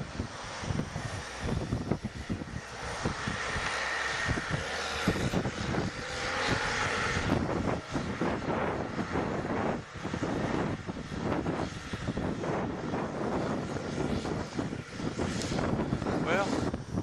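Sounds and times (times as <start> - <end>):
snow-clearing machine engine whining: 0.0 - 17.0
wind buffeting microphone: 0.0 - 17.0.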